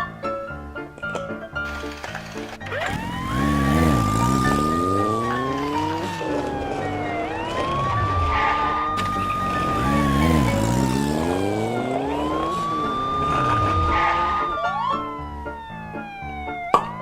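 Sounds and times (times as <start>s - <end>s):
police siren wailing: 2.8s - 17.0s
lower rising sound: 2.9s - 16.9s.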